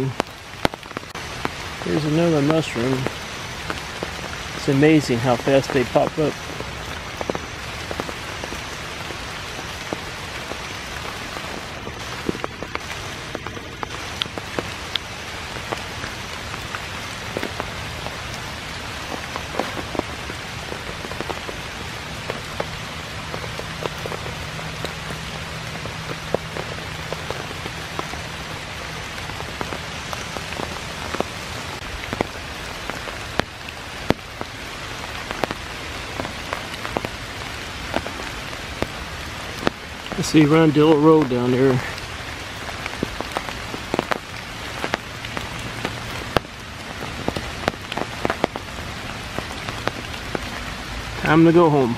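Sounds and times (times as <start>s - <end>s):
rain hissing on leaves: 0.0s - 51.9s
raindrops tapping close by: 0.0s - 51.9s.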